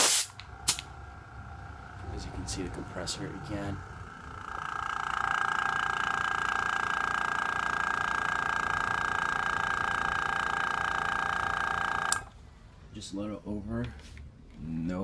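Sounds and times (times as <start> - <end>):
air compressor running: 0.0 - 12.4.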